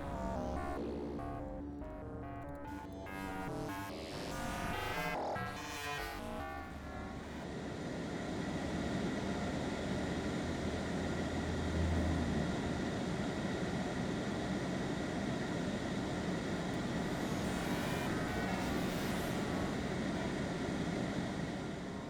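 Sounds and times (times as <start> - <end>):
droning hum: 0.0 - 22.0.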